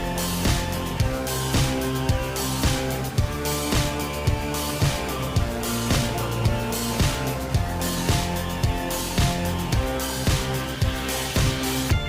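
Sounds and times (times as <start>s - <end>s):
background music with guitar: 0.0s - 12.0s.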